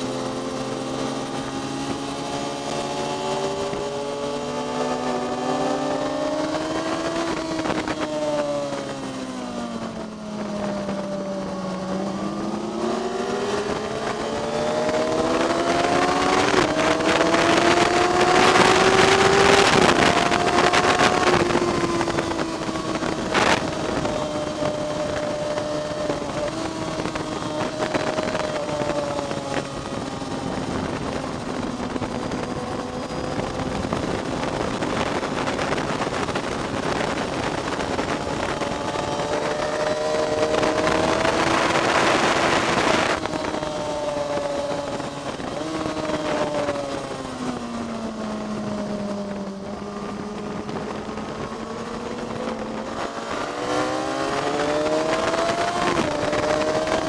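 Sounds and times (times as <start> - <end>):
racing engine accelerating: 0.0 - 57.0
wind rushing: 0.0 - 57.0.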